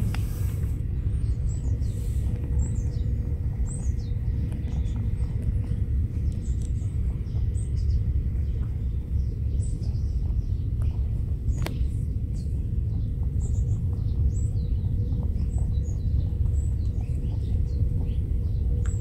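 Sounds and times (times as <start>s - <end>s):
birds chirping: 0.0s - 19.0s
low rumble: 0.0s - 19.0s.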